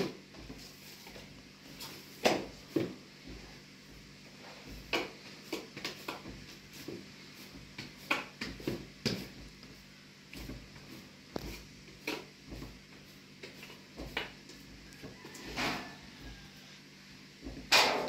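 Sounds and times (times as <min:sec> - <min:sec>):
hands kneading bread dough: 0:00.0 - 0:17.7.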